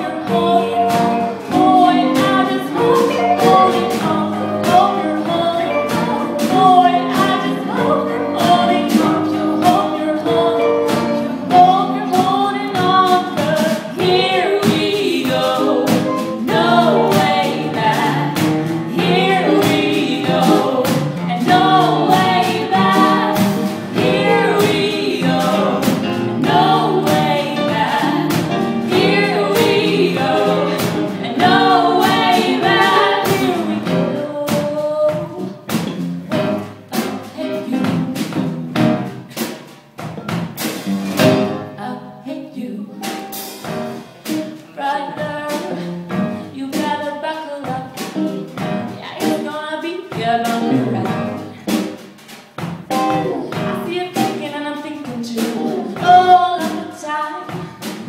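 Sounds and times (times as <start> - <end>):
woman singing: 0.0 - 35.7, 37.0 - 38.4, 41.6 - 43.3, 44.6 - 51.7, 52.9 - 58.0
electric guitar and drums playing: 0.0 - 41.8, 43.0 - 47.0, 47.7 - 49.6, 50.2 - 58.0.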